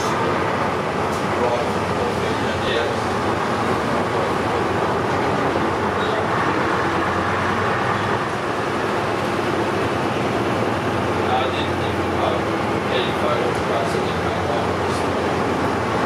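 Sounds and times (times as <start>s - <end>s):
bus engine running: 0.0s - 16.0s
road and running noise: 0.0s - 16.0s.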